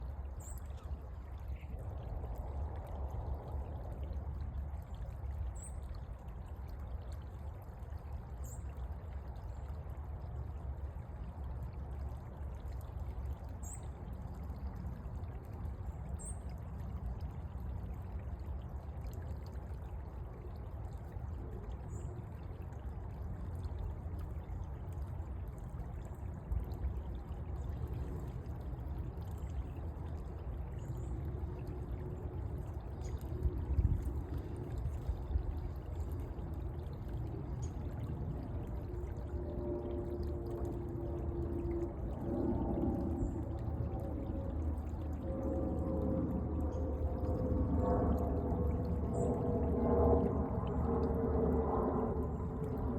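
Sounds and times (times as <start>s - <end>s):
creek water trickling: 0.0s - 52.9s.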